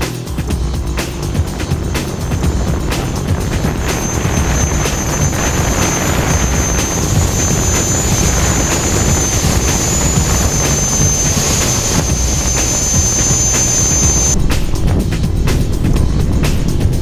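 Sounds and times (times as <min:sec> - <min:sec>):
thin high whine: 0:00.0 - 0:16.8
drone rotors buzzing: 0:00.0 - 0:17.0.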